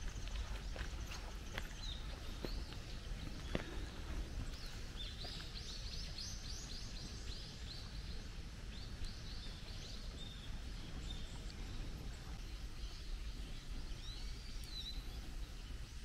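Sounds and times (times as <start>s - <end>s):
steady low rumble: 0.0s - 16.0s
small bird chirping: 0.1s - 16.0s.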